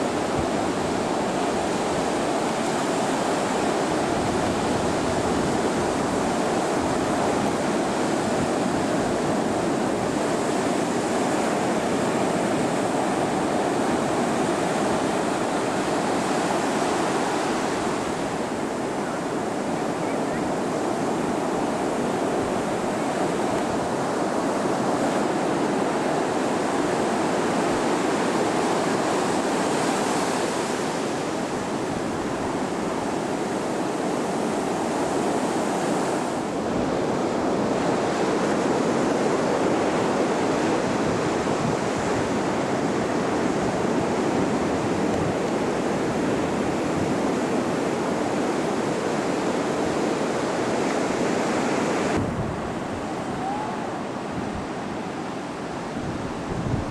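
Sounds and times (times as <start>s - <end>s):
ocean surf breaking: 0.0s - 56.9s
wind on microphone: 0.0s - 56.9s.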